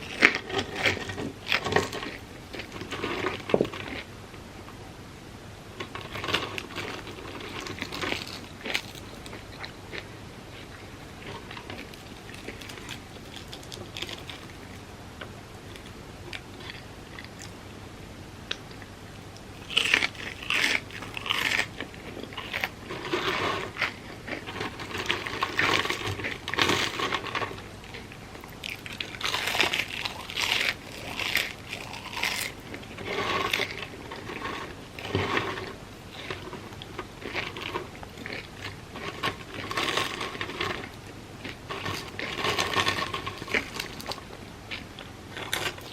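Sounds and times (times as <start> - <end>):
crunching and chewing food: 0.0 - 4.8, 5.7 - 17.8, 18.4 - 45.9.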